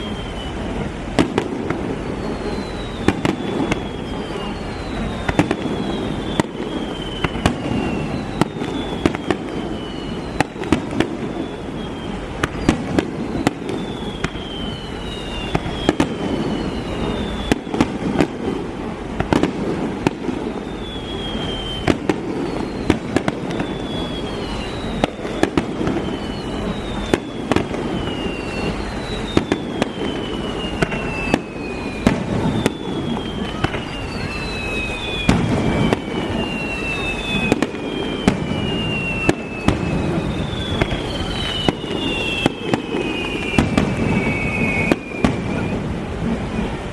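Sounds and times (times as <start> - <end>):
falling firework whistles: 0.0 - 46.9
firework bangs and crackles: 0.0 - 46.9.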